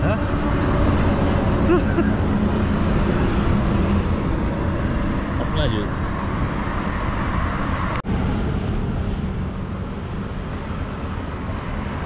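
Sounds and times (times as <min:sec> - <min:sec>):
steady road traffic: 0:00.0 - 0:12.0.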